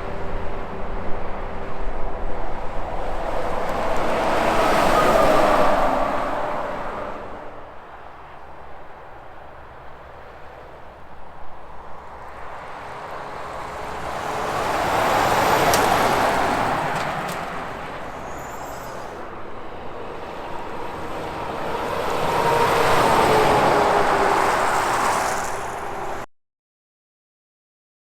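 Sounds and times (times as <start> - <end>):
vehicles passing on highway: 0.0 - 26.3.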